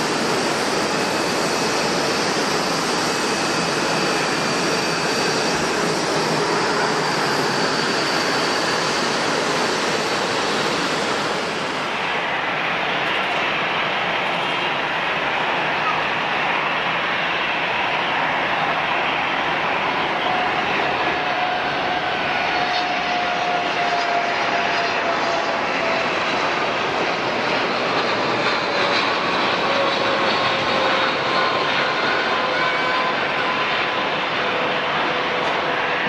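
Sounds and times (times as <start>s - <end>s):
jet airliner engines roaring: 0.0s - 36.0s.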